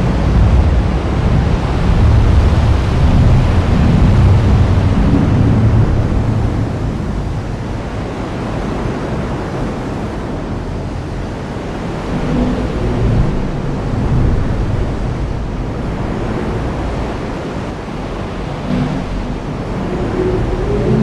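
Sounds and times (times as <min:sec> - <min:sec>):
heavy rain pouring: 0:00.0 - 0:21.0
low rumble: 0:00.0 - 0:21.0.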